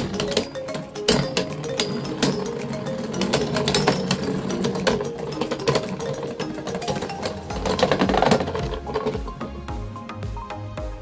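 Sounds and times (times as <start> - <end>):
spinning tops whirring and clashing: 0.0 - 9.2
music: 0.0 - 11.0.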